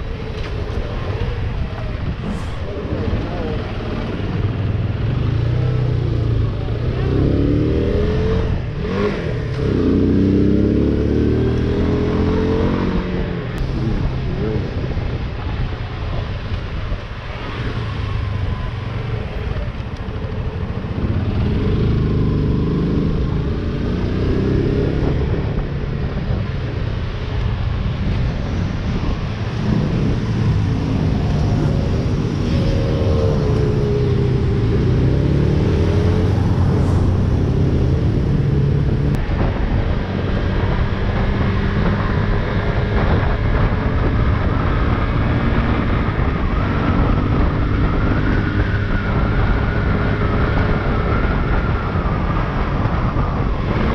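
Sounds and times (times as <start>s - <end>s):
wind on microphone: 0.0s - 53.9s.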